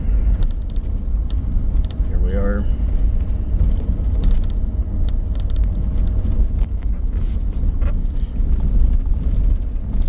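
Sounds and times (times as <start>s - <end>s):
rattles and knocks from rough road: 0.0s - 10.0s
truck engine low rumble: 0.0s - 10.0s.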